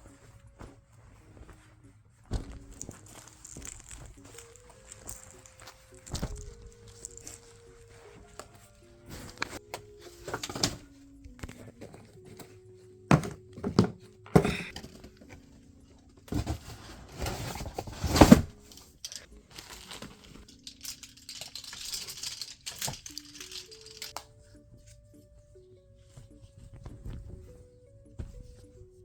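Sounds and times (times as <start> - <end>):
objects rustling and thudding: 0.0 - 24.9, 25.9 - 29.0
soft slow background music: 0.0 - 29.0.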